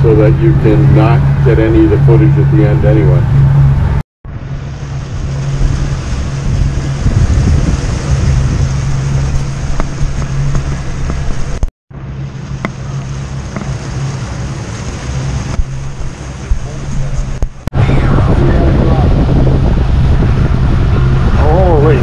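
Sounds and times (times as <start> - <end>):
wind buffeting microphone: 0.0 - 11.7, 12.3 - 22.0
churning wake rushing: 0.0 - 22.0
outboard motor running: 0.0 - 22.0.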